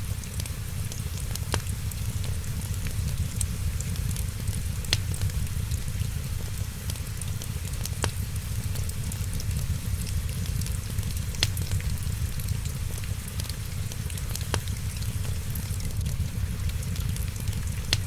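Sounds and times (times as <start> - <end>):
rain falling: 0.0 - 18.0
wood fire crackling: 0.0 - 18.0.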